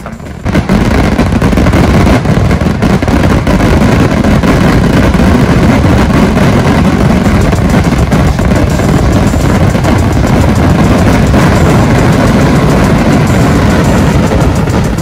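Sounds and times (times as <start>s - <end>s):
fireworks bangs rumbling: 0.0s - 15.0s
fireworks crackling: 0.0s - 15.0s.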